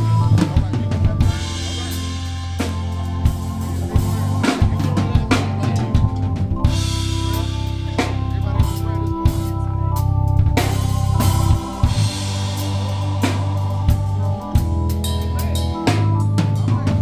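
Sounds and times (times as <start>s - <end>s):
drum kit beat: 0.0s - 17.0s
held chords: 0.0s - 17.0s
low bass line: 0.0s - 17.0s.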